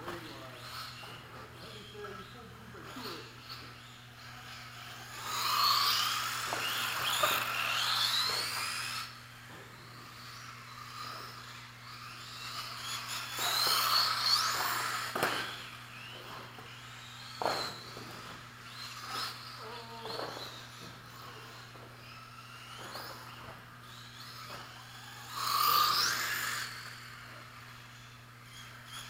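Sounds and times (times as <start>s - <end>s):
rc car motors whining: 0.0s - 29.0s.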